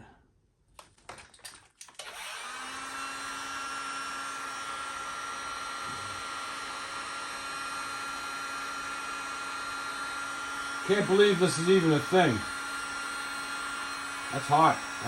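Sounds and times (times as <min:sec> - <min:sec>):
heat gun whirring: 0:01.8 - 0:15.0.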